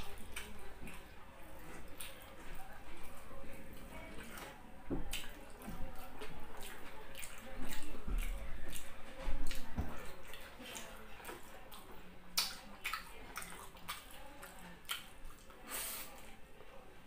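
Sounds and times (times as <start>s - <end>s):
wet chewing and lip-smacking: 0.0s - 16.0s.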